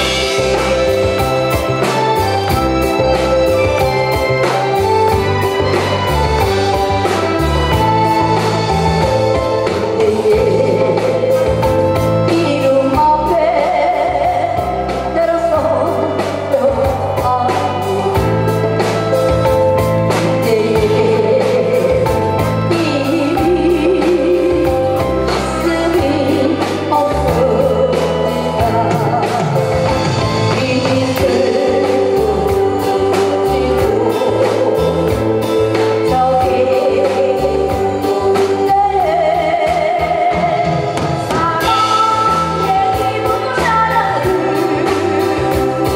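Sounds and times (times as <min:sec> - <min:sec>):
band playing a steady beat: 0:00.0 - 0:45.9
woman singing into a microphone: 0:04.6 - 0:45.9.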